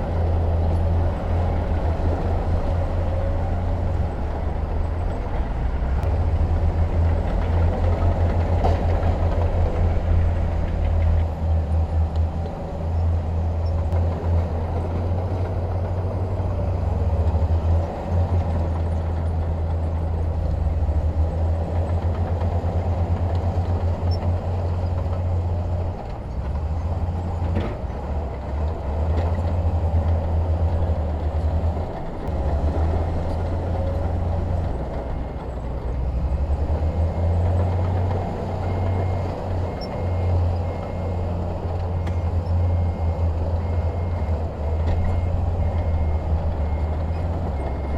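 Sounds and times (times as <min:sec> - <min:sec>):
heavy diesel engines rumbling: 0:00.0 - 0:47.9.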